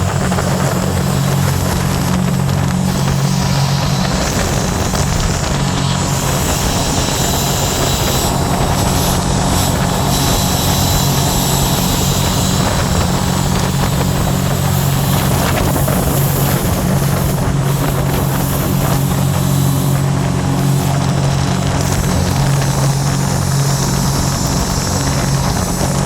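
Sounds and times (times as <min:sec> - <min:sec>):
boat engine droning: 0:00.0 - 0:26.0
rushing water noise: 0:00.0 - 0:26.0.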